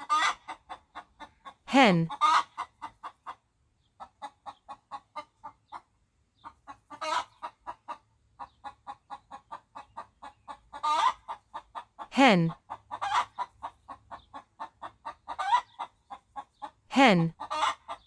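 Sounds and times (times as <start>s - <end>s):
hen clucking: 0.0s - 3.4s, 4.0s - 18.0s.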